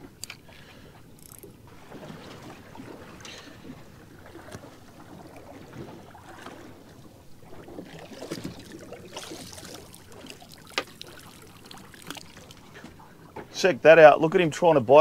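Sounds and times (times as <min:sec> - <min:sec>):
water sloshing around boat: 0:00.0 - 0:15.0.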